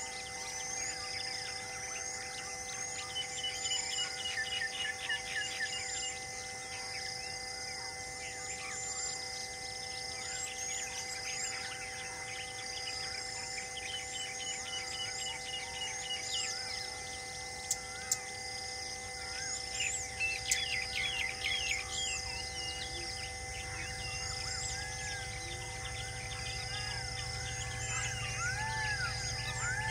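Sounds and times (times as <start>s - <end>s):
birds chirping and whistling: 0.0s - 7.2s, 8.5s - 29.9s
faint held tones: 0.0s - 29.9s
high insect buzz: 0.0s - 29.9s.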